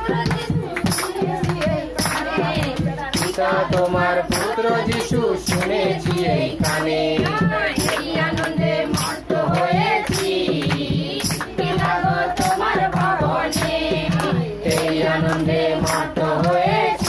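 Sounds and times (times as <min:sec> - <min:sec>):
hand claps: 0:00.0 - 0:17.0
percussion beat: 0:00.0 - 0:17.0
women singing devotional song: 0:00.0 - 0:17.0.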